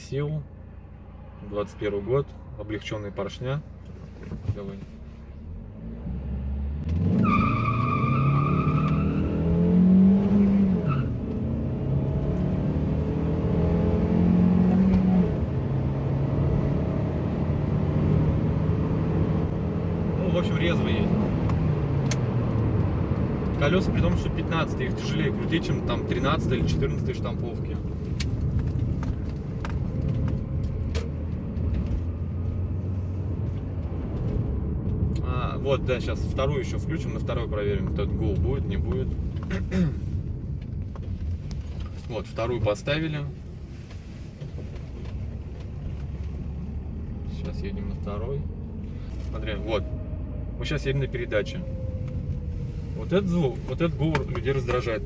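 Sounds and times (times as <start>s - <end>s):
car engine accelerating: 3.8s - 55.0s.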